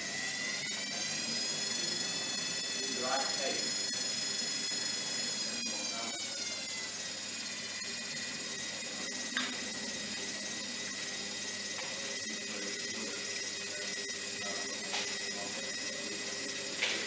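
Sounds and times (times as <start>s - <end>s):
washing machine motor whining: 0.0s - 17.0s.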